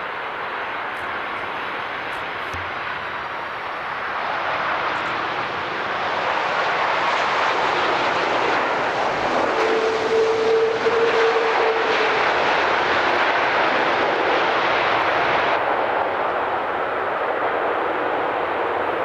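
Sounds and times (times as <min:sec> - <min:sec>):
jet engine whine: 0:00.0 - 0:19.0
loud jet noise: 0:00.0 - 0:19.0.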